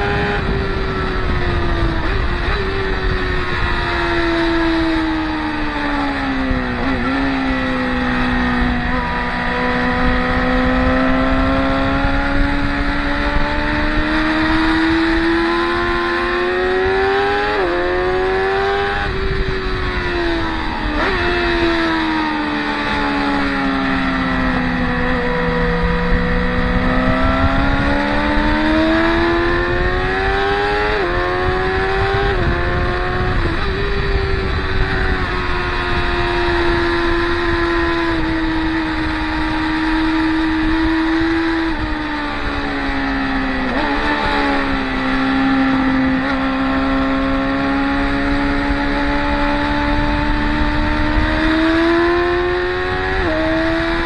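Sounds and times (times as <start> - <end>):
motorcycle engines passing: 0.0 - 54.0.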